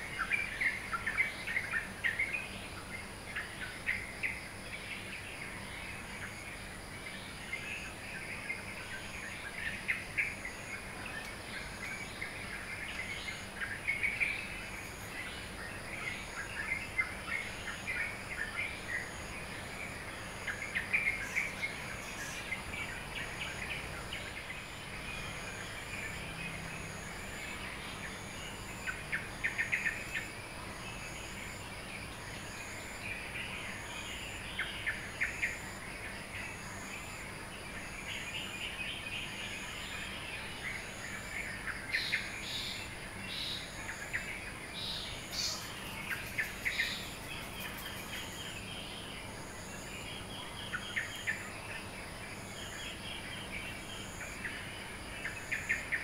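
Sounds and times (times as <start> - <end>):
high insect trill: 0.0 - 56.0
small birds chirping: 0.0 - 56.0.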